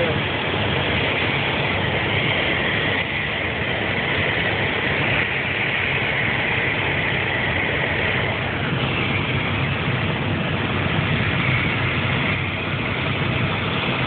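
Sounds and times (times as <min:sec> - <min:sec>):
light aircraft engine and propeller: 0:00.0 - 0:14.0.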